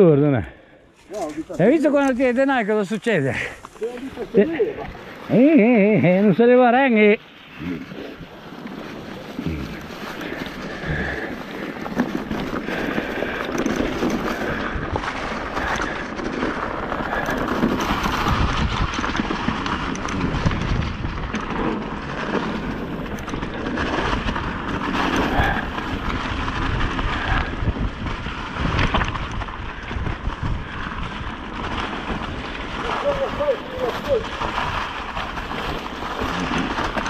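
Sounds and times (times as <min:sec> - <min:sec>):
bike tyres crunching leaves: 0:00.0 - 0:37.0
bike rattling over bumps: 0:01.0 - 0:37.0.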